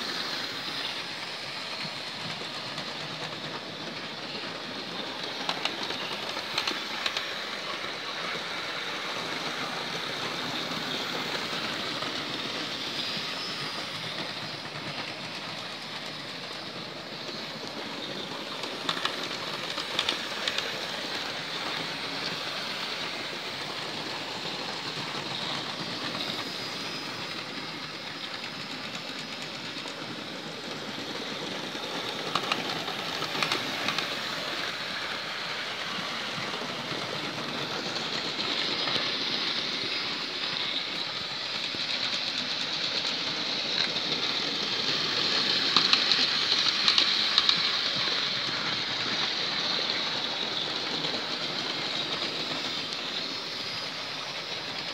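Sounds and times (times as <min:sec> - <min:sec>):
model train motors whirring: 0:00.0 - 0:54.9
wheels rolling on track: 0:00.0 - 0:54.9.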